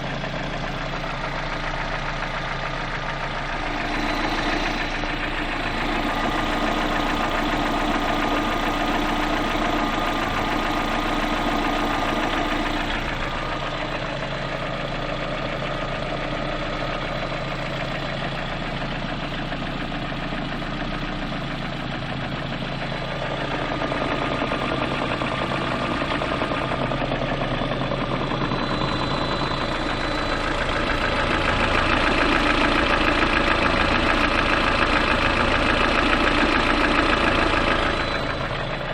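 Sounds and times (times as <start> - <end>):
petrol engine running: 0.0 - 38.9
rhythmic engine knock: 0.0 - 38.9.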